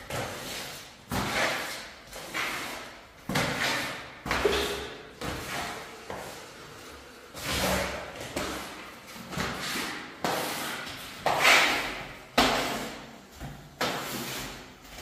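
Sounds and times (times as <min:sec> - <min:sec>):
squeegee scraping wet floor: 0:00.0 - 0:15.0.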